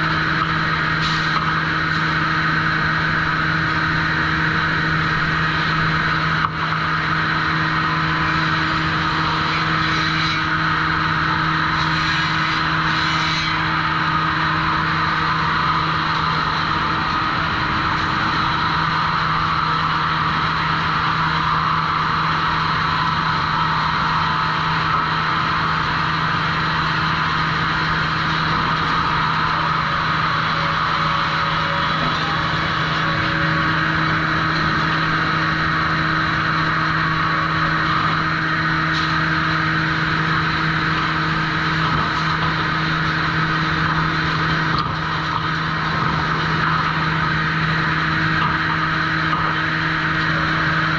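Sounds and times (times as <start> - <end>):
high whine of spinning saws: 0.0 - 50.9
sawmill machinery motor hum: 0.0 - 50.9.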